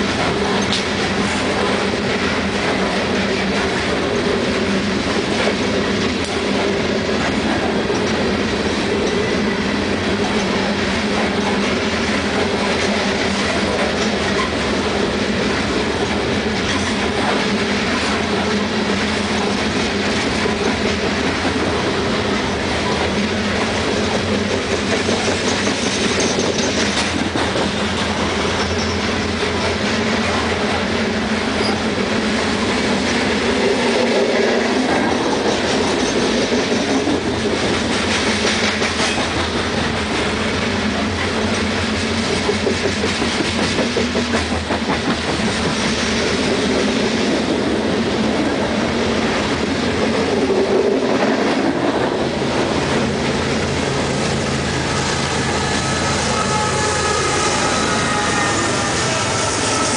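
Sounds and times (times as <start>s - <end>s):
train cars rolling rumble: 0.0s - 59.9s
wheels clacking over rail joints: 0.0s - 59.9s.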